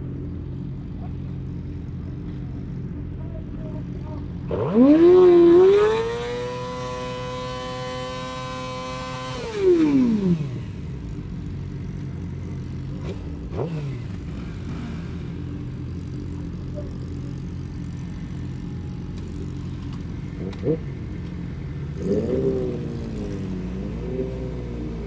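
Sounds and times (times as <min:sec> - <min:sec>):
motorcycle engine revving: 0:00.0 - 0:25.0
motorcycles idling: 0:00.0 - 0:25.0.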